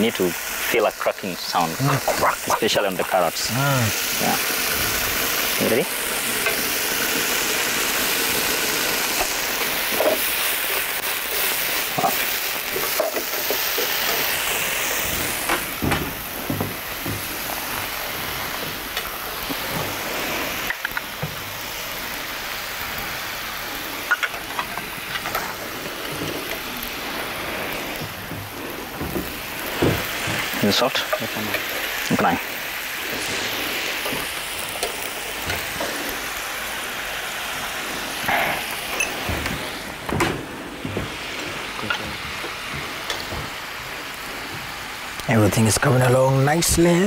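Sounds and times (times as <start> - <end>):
food sizzling in oil: 0.0 - 45.2.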